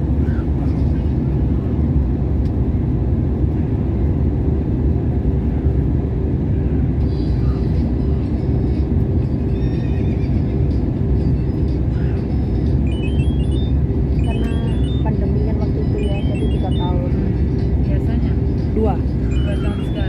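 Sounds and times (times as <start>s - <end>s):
airliner cabin jet noise: 0.0s - 20.0s.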